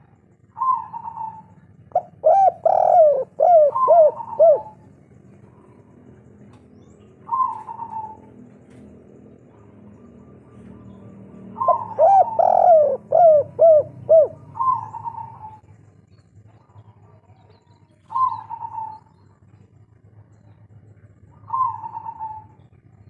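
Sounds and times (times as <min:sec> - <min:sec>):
dove cooing: 0:00.0 - 0:06.3, 0:07.1 - 0:15.7, 0:17.0 - 0:19.4, 0:21.1 - 0:22.8.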